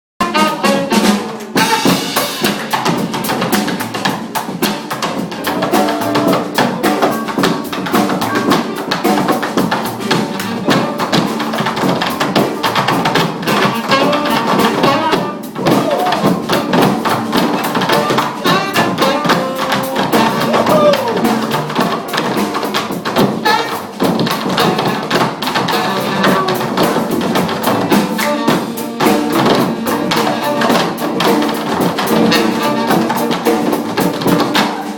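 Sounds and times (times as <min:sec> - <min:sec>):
drum kit beat: 0:00.2 - 0:34.9
funk band playing live: 0:00.2 - 0:34.9.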